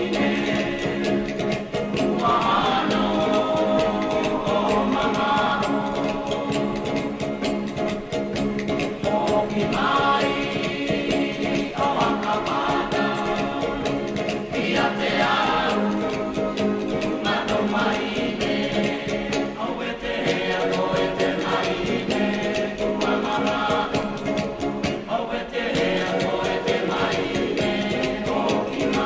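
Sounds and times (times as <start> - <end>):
choir singing in harmony: 0.0 - 29.0.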